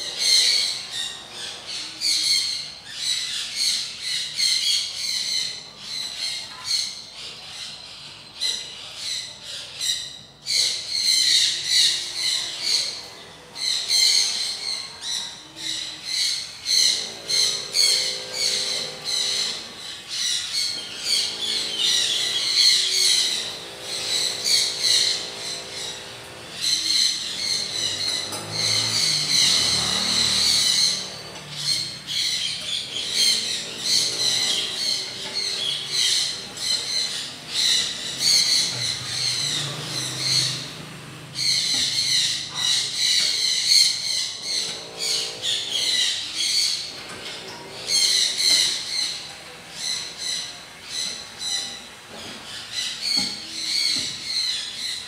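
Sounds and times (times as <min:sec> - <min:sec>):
birds chirping rapidly: 0:00.0 - 0:55.0.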